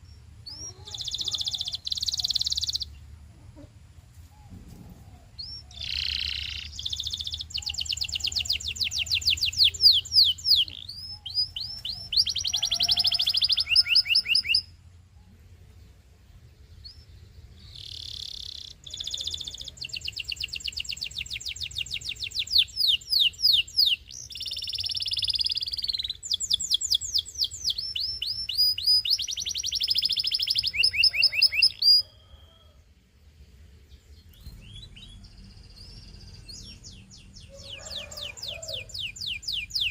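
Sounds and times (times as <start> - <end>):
canary singing trills: 0.0 - 3.7, 4.4 - 15.4, 16.6 - 32.8, 33.8 - 39.9.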